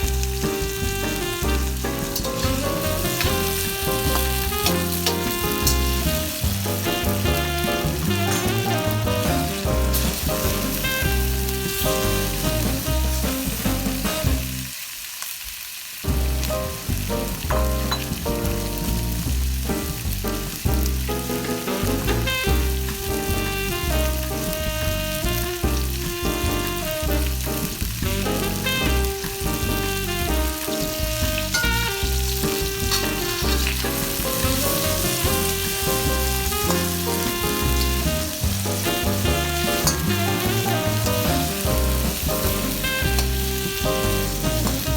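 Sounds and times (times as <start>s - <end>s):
background music with beat: 0.0s - 14.6s, 16.1s - 44.9s
food sizzling in a pan: 0.0s - 44.9s.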